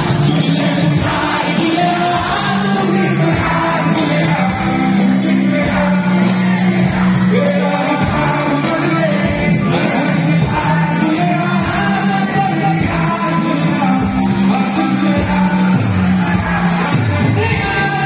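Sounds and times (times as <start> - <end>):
audience shouting and cheering: 0.0 - 18.0
live band playing: 0.0 - 18.0
person singing: 0.0 - 18.0.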